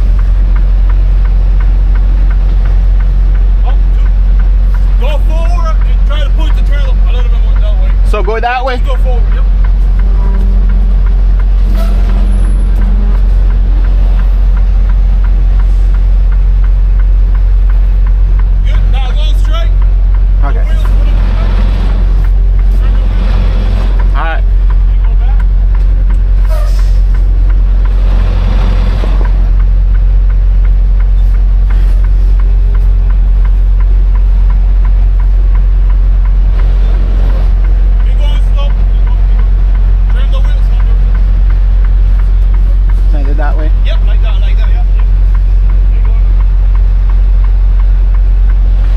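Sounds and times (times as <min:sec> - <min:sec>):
diesel truck engine rumbling: 0:00.0 - 0:48.9
light ticking: 0:00.0 - 0:48.9.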